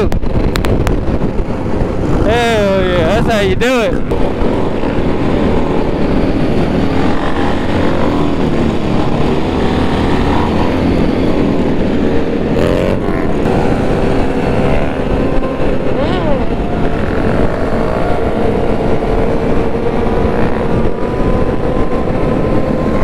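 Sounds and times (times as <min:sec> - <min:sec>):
motorbike engine revving: 0:00.0 - 0:23.0
motorbike engines running: 0:00.0 - 0:23.0.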